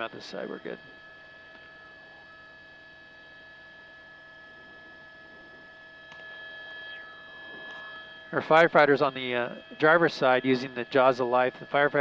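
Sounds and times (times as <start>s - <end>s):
high steady tones hum: 0.0s - 12.0s.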